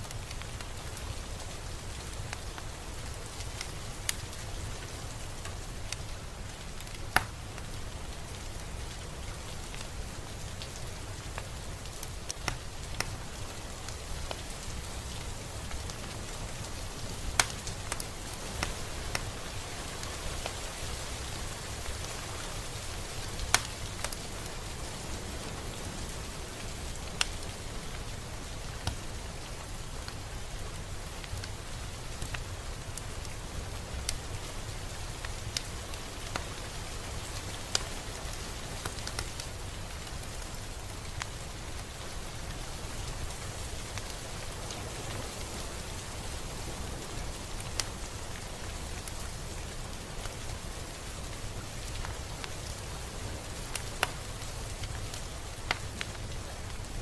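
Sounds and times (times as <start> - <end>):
sharp raindrop ticks: 0.0 - 57.0
steady rain hiss: 0.0 - 57.0.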